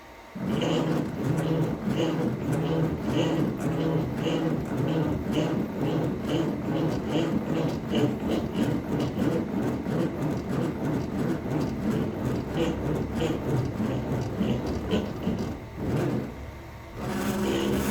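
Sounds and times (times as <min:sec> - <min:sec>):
cnc machine running: 0:00.1 - 0:17.9.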